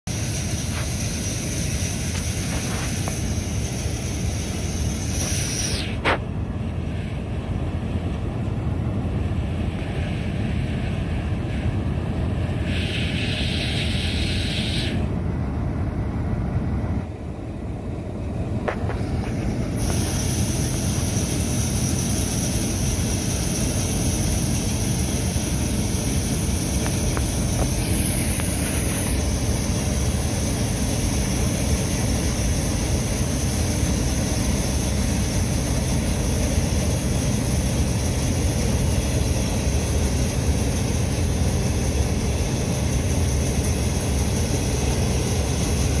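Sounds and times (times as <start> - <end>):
combine harvester engine drone: 0.0 - 46.0.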